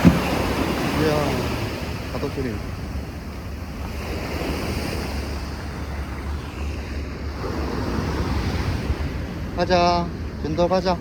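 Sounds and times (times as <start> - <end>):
sea waves washing on shore: 0.0 - 11.0
wind buffeting microphone: 0.0 - 11.0.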